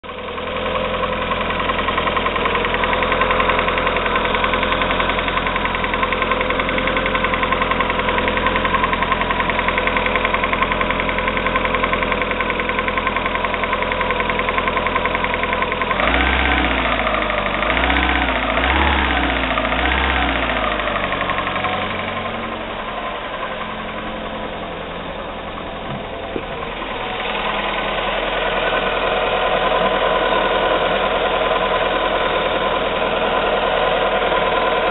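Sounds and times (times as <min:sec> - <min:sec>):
car engine running: 0:00.0 - 0:34.9
fast regular engine knocking: 0:00.1 - 0:34.9.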